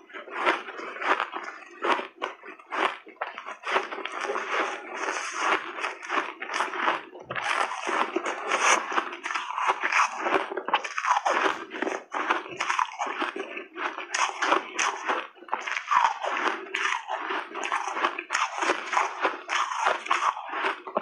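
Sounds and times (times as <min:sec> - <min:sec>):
shaved ice crunching while chewed: 0:00.0 - 0:21.0.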